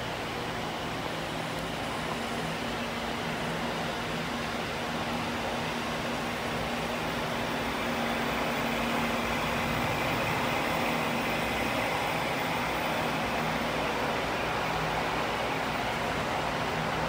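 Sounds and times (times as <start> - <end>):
ferry engine humming: 0.0 - 17.0.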